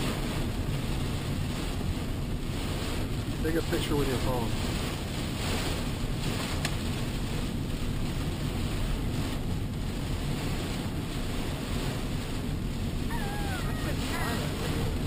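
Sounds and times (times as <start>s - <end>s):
heavy rain: 0.0s - 15.0s
wet road noise inside car: 0.0s - 15.0s.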